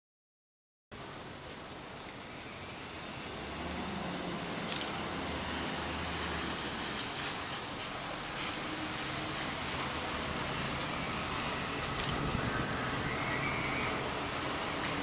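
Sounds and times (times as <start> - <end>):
tyres hissing on wet road: 0.9 - 15.0
bus engine hum: 2.2 - 15.0.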